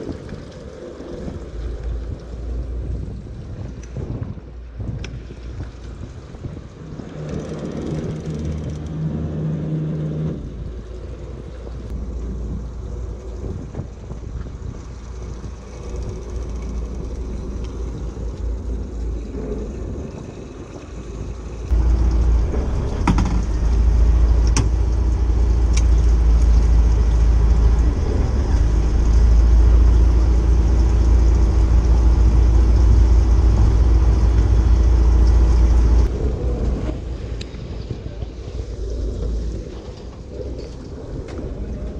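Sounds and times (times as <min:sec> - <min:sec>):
boat engine running: 0:00.0 - 0:41.9
water noise: 0:00.0 - 0:41.9
wind: 0:00.0 - 0:41.9.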